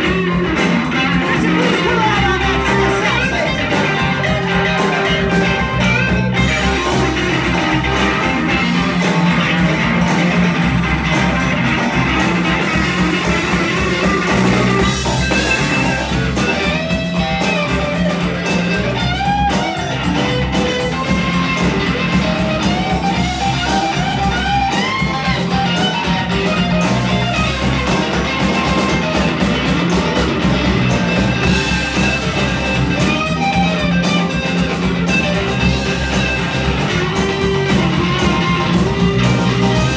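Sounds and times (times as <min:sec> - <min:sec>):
electric guitar: 0:00.0 - 0:39.9
live blues-rock band: 0:00.0 - 0:39.9.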